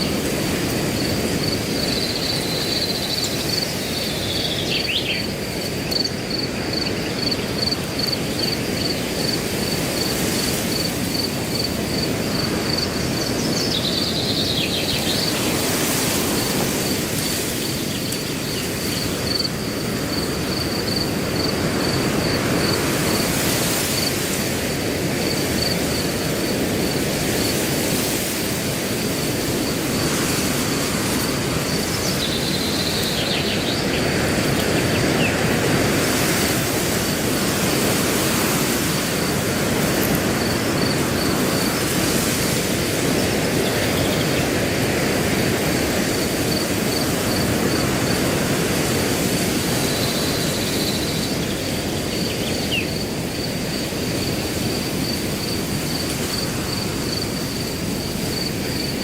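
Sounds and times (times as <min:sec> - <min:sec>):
cricket chirping: 0:00.0 - 0:59.0
wind through grass: 0:00.0 - 0:59.0.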